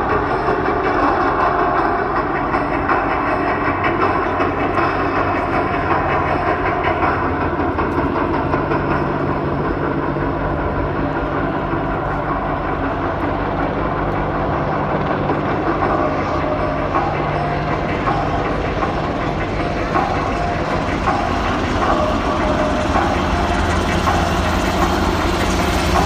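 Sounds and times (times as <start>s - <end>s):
helicopter engine hum: 0.0s - 26.0s
helicopter rotor beat: 0.0s - 26.0s.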